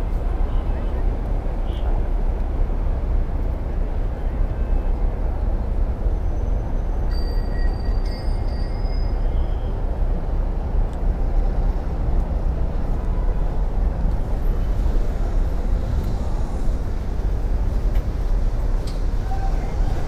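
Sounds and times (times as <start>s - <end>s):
city background rumble: 0.0s - 20.0s.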